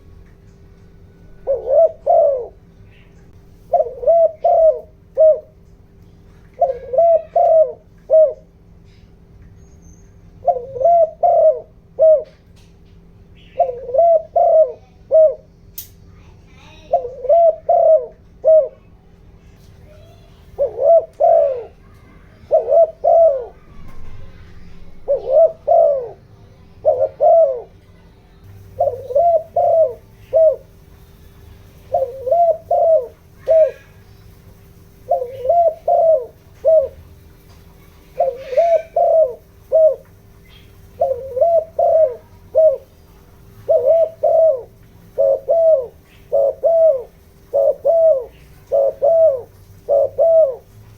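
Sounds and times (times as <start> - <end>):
faint steady hum: 0.0 - 50.9
dove cooing: 1.0 - 5.7, 6.3 - 8.7, 10.4 - 12.5, 13.4 - 15.5, 16.6 - 19.0, 20.6 - 50.9.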